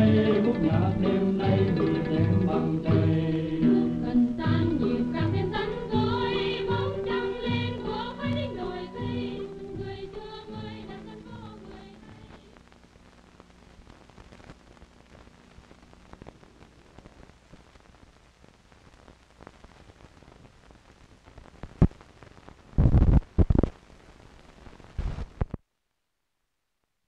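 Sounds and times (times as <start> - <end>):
film soundtrack crackle and hiss: 0.0 - 26.9.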